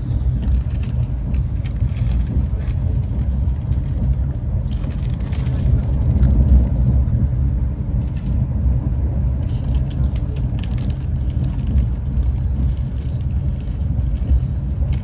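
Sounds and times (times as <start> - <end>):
train rumble from on board: 0.0 - 15.0.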